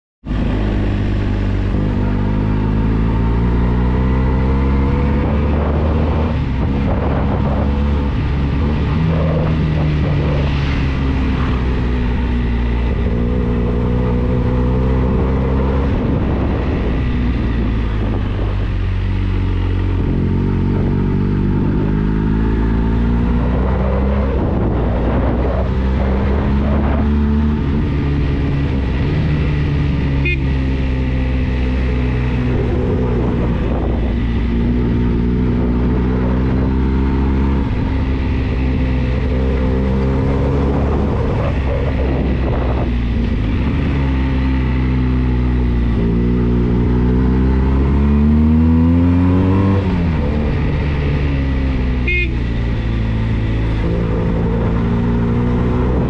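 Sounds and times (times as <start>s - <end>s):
motorcycle engine revving: 0.2s - 56.0s.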